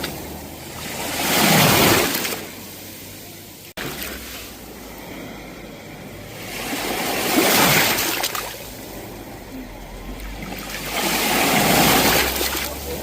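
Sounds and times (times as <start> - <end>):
sea waves washing on shore: 0.0 - 13.0.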